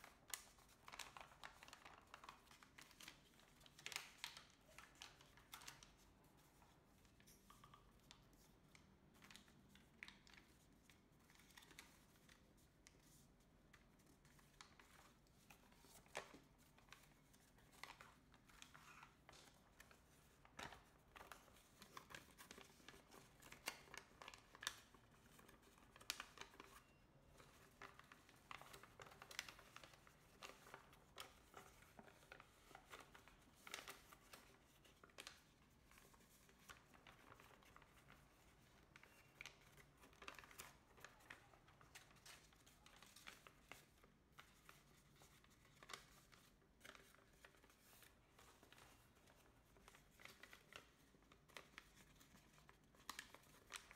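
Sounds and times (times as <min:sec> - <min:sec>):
paper rustling and crinkling: 0:00.0 - 0:53.9.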